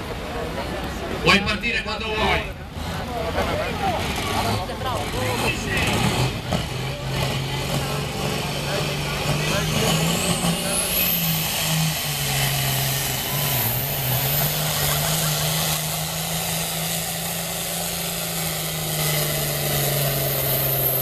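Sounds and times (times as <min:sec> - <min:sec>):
diesel engine under heavy load: 0:00.0 - 0:21.0.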